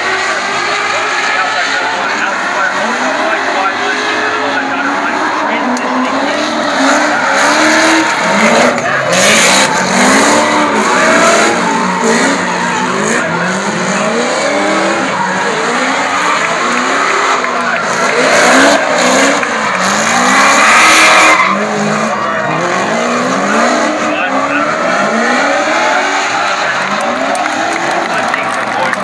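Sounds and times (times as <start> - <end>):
car engines revving: 0.0 - 29.0
tyres squealing and skidding: 0.0 - 29.0.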